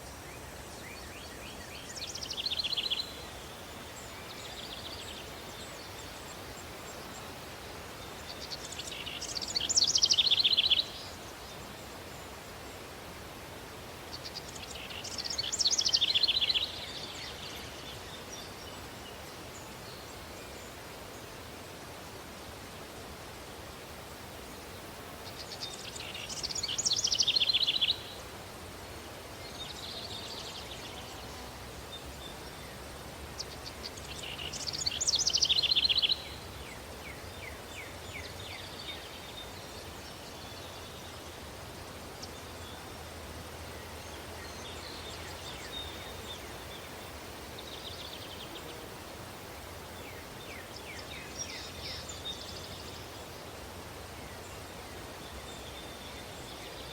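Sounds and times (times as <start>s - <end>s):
songbirds calling: 0.0s - 21.8s, 23.8s - 56.9s
breeze hiss: 0.0s - 56.9s.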